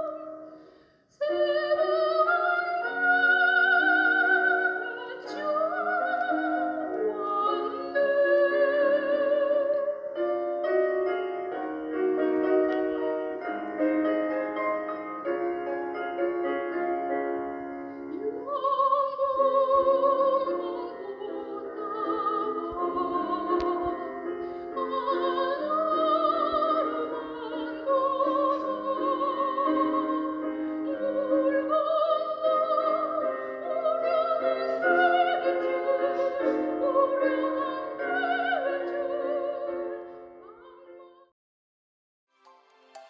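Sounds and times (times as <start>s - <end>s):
person singing with vibrato: 0.0s - 41.2s.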